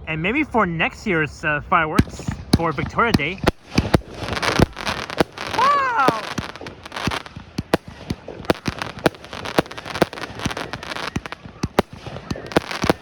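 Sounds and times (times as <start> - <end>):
fireworks crackling: 1.0 - 13.0
fireworks bangs and pops: 1.9 - 13.0.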